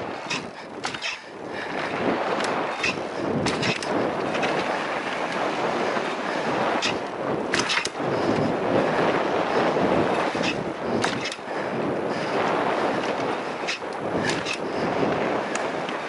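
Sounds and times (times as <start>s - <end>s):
bike clacking and rattling: 0.0s - 9.2s, 10.0s - 16.0s
tyres on dirt: 0.0s - 14.9s
wind rushing over microphone: 0.0s - 16.0s.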